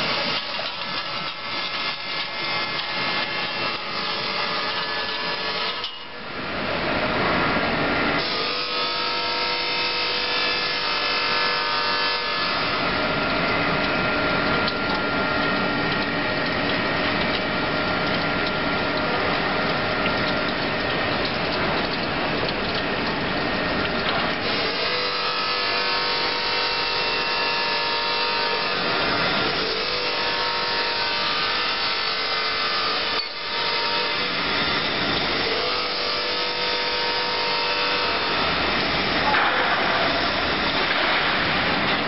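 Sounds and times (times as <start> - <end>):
fence weaving machine running: 8.2 - 42.0.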